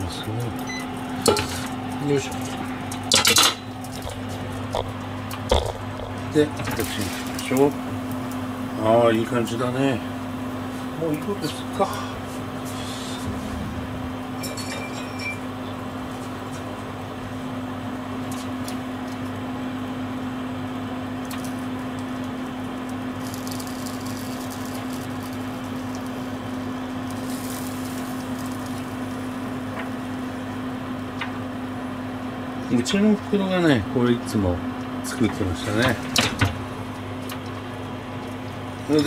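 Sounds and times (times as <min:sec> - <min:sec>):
kitchen fan whirring: 0:00.0 - 0:39.0.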